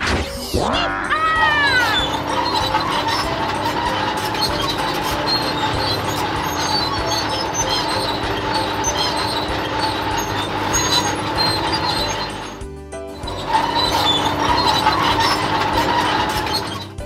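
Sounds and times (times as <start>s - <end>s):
excavator engine driving: 0.0s - 17.0s.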